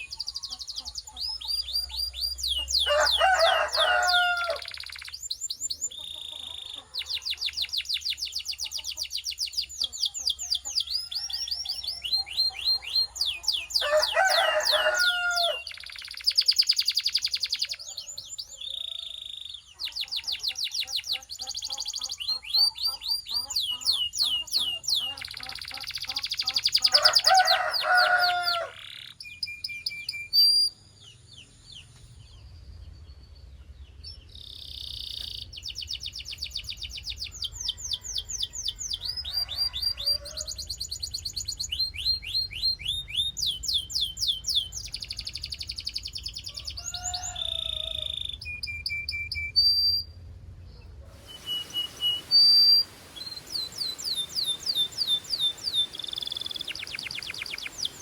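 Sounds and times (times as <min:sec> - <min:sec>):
canary singing trills: 0:00.0 - 0:33.0, 0:33.9 - 0:58.0.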